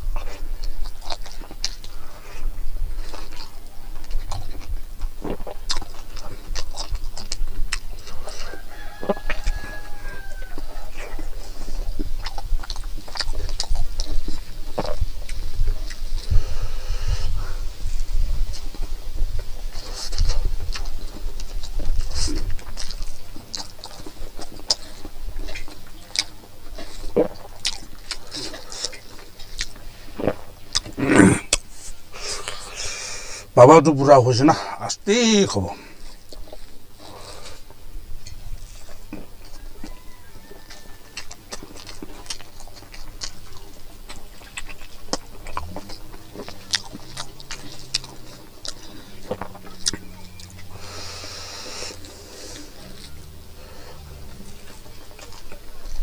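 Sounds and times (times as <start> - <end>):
person chewing food: 0.0 - 33.5, 35.5 - 56.0.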